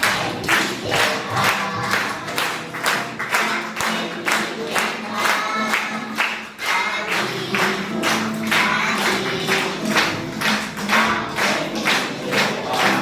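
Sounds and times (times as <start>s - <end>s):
children's song singing: 0.0s - 13.0s
hands clapping: 0.0s - 13.0s.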